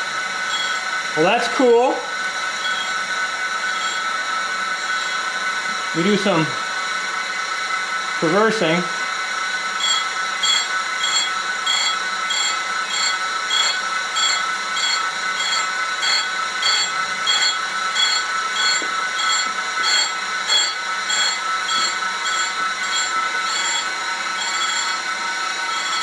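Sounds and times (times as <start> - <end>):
grinder wheel whining and grinding: 0.0 - 7.3, 9.2 - 26.0.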